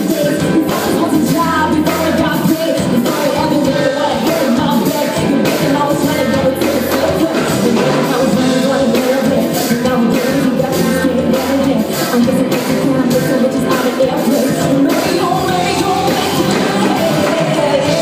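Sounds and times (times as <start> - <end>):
live pop band playing: 0.0 - 18.0
woman singing into microphone: 0.0 - 18.0.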